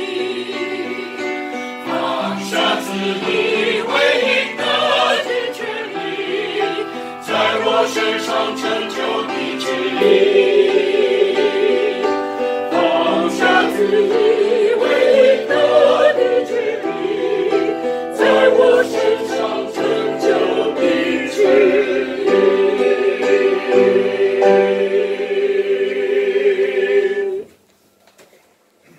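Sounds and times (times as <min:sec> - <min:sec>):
choir singing a hymn: 0:00.0 - 0:27.6.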